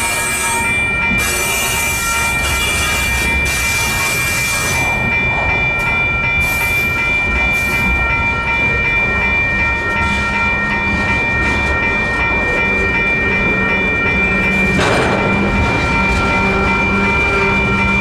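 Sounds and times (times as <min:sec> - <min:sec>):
crossing bells ringing: 0:00.0 - 0:18.0
train rumble and wheel clatter: 0:00.0 - 0:18.0.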